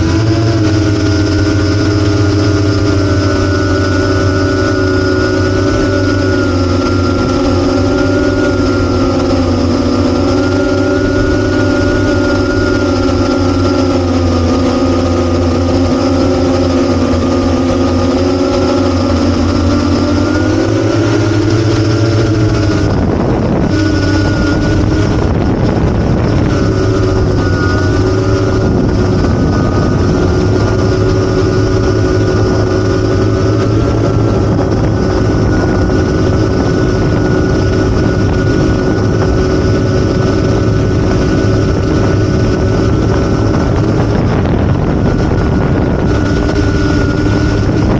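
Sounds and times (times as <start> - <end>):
drone motors and propellers whining: 0.0 - 47.9.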